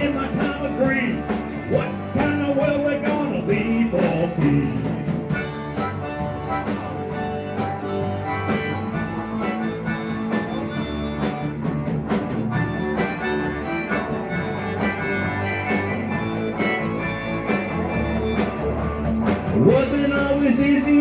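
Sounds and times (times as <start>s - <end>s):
guitar and bass: 0.0s - 21.0s
steady drum beat: 0.0s - 21.0s
wailing lead line: 0.0s - 21.0s.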